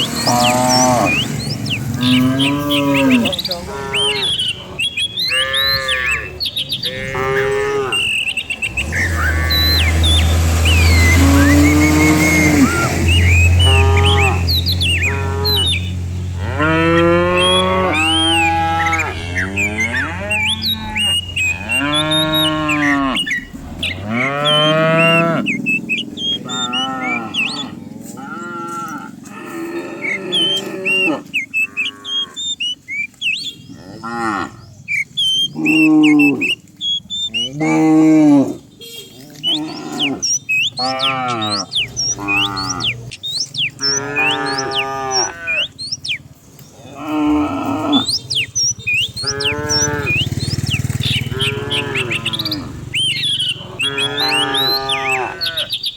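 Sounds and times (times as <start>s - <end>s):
cattle mooing: 0.0s - 55.8s.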